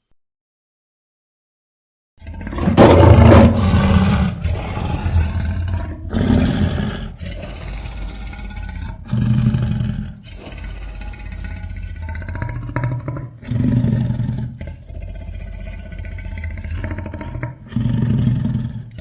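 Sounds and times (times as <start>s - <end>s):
deep rough creature roar: 2.2s - 19.0s.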